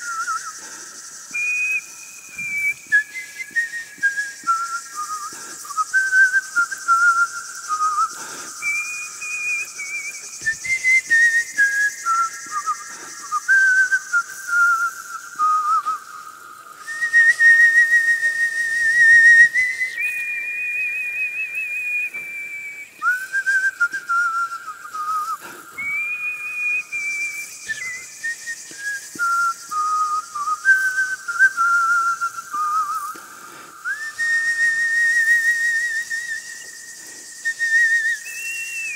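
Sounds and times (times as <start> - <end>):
person whistling a tune: 0.0 - 38.9
steady high hiss: 0.0 - 38.9.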